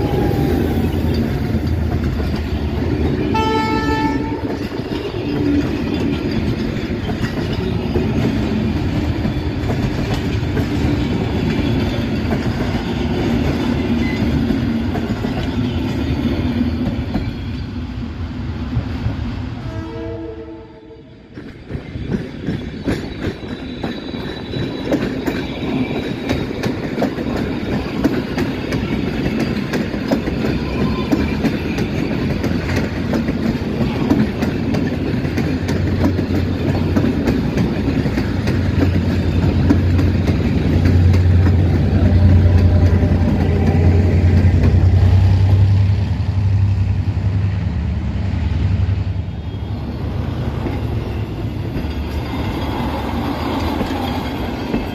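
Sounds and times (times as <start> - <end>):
train wheels clicking over rail joints: 0.0 - 17.8, 21.2 - 47.6, 49.9 - 54.9.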